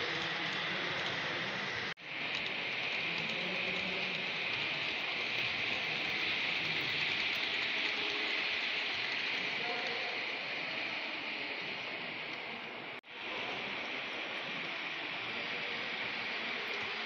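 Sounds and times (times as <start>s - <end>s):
model train motors whirring: 0.0s - 17.0s
model train wheels on rails: 0.0s - 17.0s.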